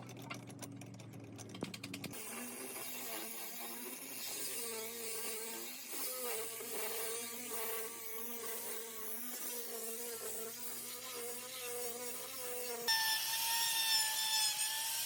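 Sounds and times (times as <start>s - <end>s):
power tool motor buzzing: 2.1s - 15.0s.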